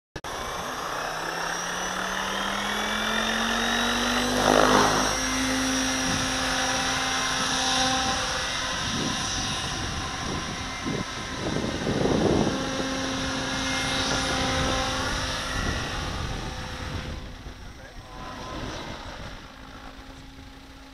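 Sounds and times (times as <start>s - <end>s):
model helicopter rotor whine: 0.2s - 20.9s.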